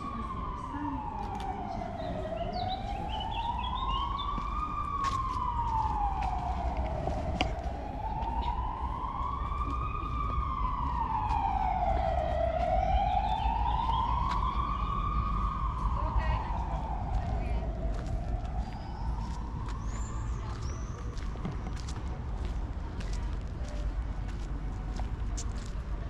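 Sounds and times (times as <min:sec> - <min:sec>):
city traffic rumble: 0:00.0 - 0:26.0
emergency vehicle siren wailing: 0:00.0 - 0:26.0.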